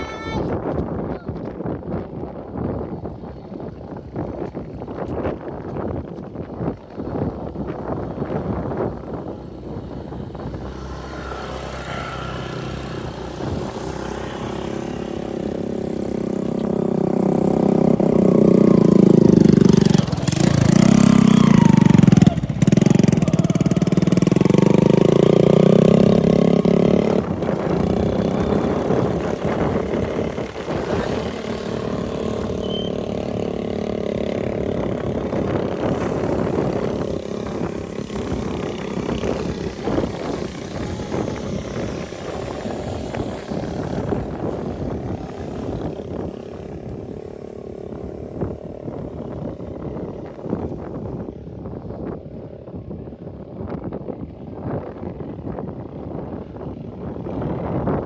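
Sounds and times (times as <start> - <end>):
motorbike engine passing: 3.0 - 58.0.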